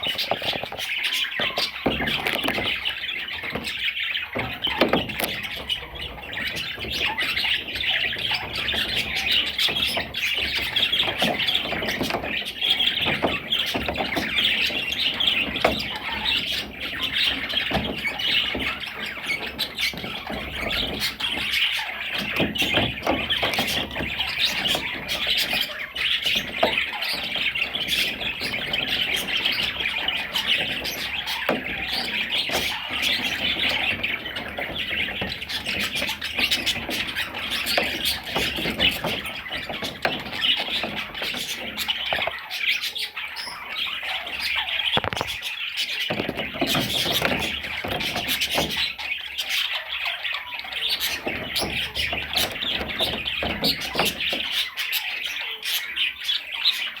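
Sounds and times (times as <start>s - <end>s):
budgerigar chattering and warbling: 0.0s - 57.0s.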